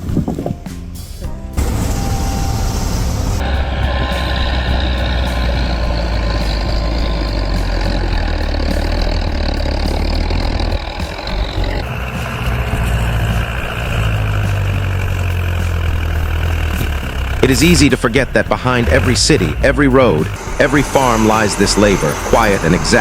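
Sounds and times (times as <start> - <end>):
bulldozer diesel engine running: 1.3 - 23.0.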